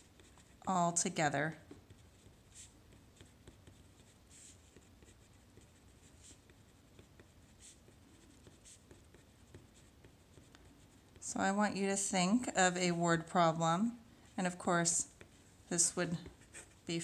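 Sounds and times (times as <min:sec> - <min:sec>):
marker scratching on paper: 0:00.0 - 0:11.8, 0:14.4 - 0:17.0.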